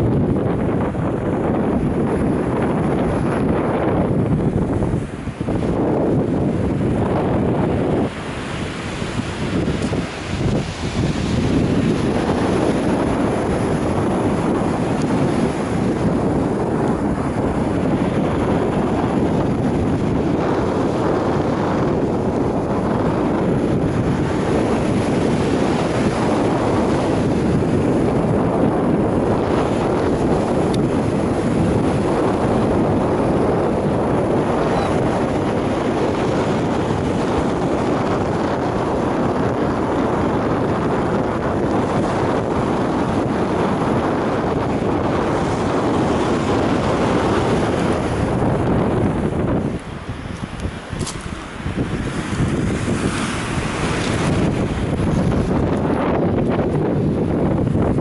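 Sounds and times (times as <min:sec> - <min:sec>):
sea waves rushing: 0:00.0 - 0:58.0
wind buffeting microphone: 0:00.0 - 0:58.0.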